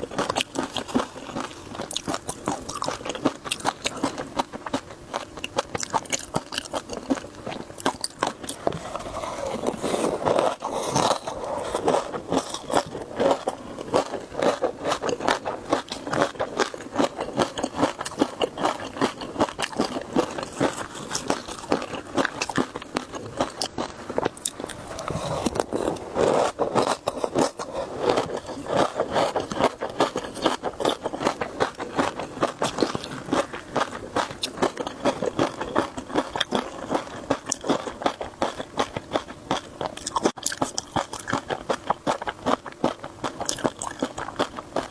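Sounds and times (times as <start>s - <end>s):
chewing and crunching food: 0.0s - 44.9s.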